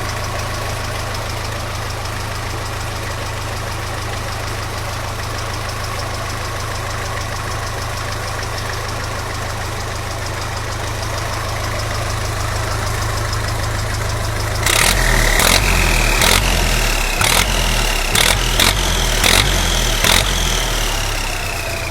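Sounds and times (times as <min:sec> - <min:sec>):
diesel tractor engine idling: 0:00.0 - 0:21.9.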